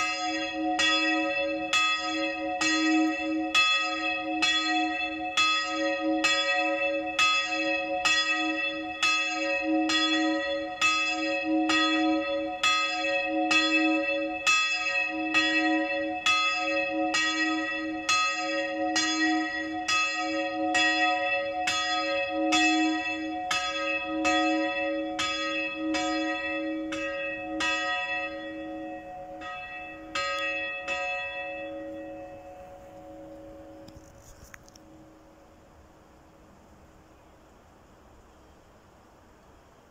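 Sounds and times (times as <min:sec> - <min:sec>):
church bell ringing: 0:00.0 - 0:35.4.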